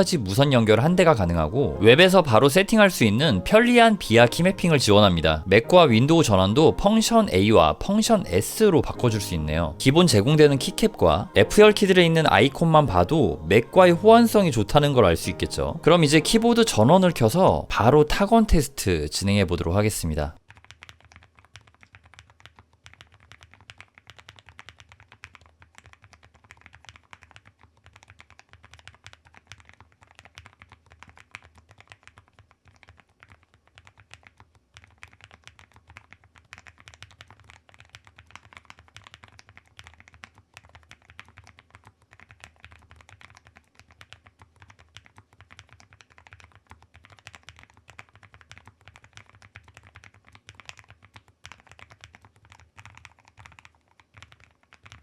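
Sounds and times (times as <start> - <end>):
fast typing on mechanical keyboard: 0.0 - 55.0.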